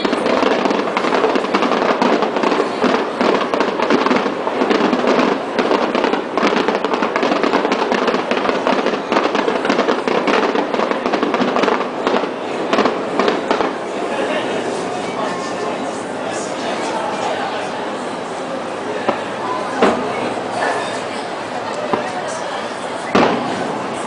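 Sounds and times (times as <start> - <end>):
fireworks bangs and crackle: 0.0 - 24.0.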